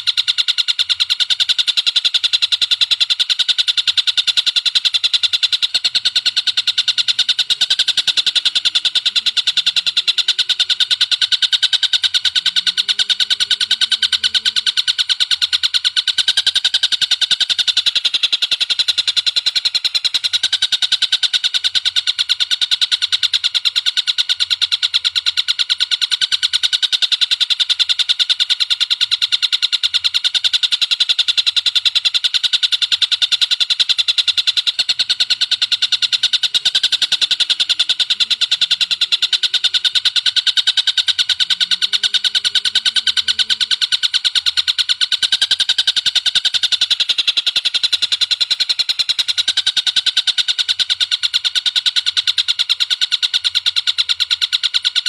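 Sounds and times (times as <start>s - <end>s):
bird calling with high notes: 0.0s - 55.0s.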